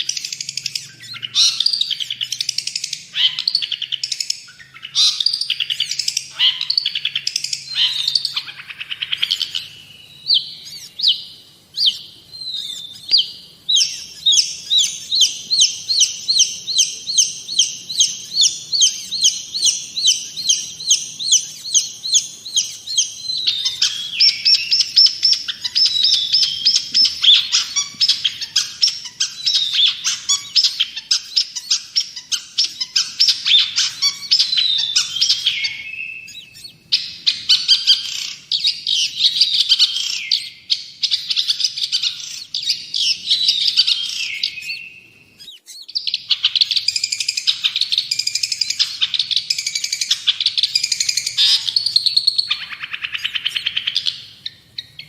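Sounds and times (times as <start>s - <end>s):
bird singing chattering phrases: 0.0s - 55.0s.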